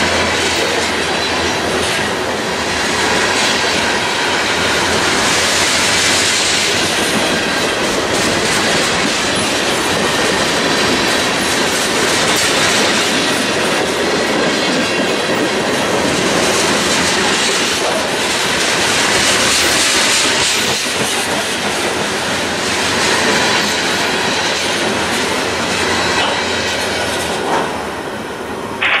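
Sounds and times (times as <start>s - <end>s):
freight train wheels clattering: 0.0s - 29.0s.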